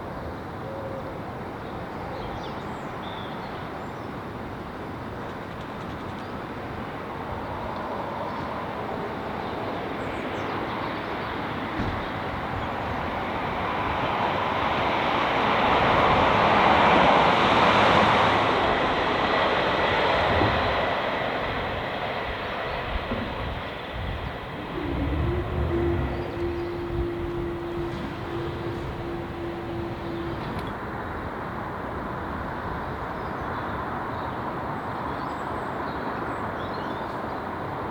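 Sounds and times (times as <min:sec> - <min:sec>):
train passing: 0:00.0 - 0:37.9.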